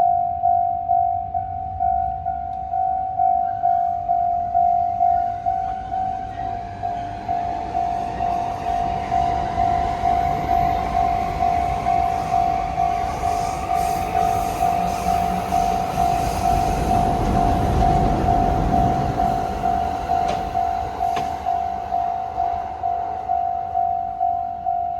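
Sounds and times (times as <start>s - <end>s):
level crossing warning bell: 0.0s - 24.9s
passing train rumble: 0.0s - 24.9s.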